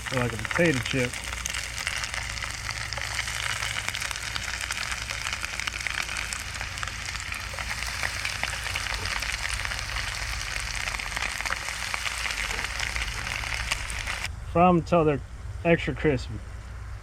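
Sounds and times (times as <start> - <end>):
fish frying in hot oil: 0.0 - 14.3.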